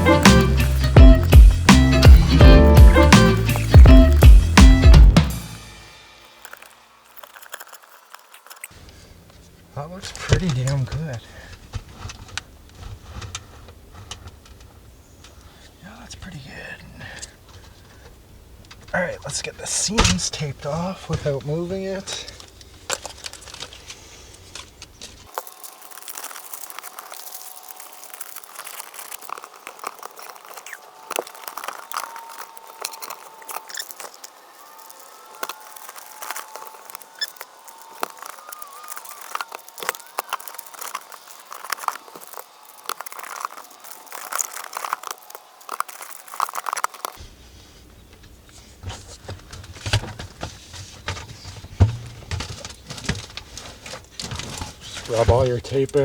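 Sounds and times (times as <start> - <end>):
foil tape crinkling: 0.0 - 16.0, 17.4 - 56.0.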